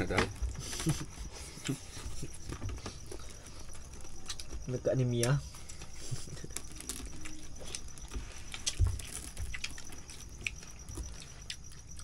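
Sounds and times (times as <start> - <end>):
high insect trill: 0.0 - 12.0
people eating with hands: 0.0 - 12.0.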